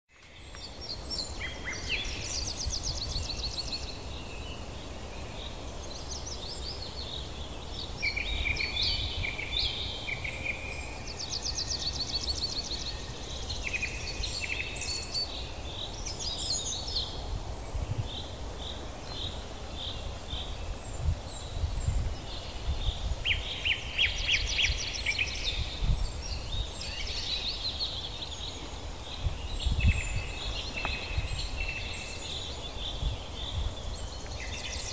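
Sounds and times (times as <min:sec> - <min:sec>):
birds singing and chirping: 0:00.1 - 0:34.9.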